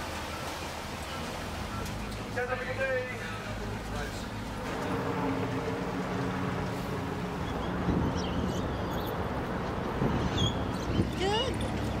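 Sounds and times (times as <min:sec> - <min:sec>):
boat engine humming: 0:00.0 - 0:12.0
water rushing: 0:00.0 - 0:12.0.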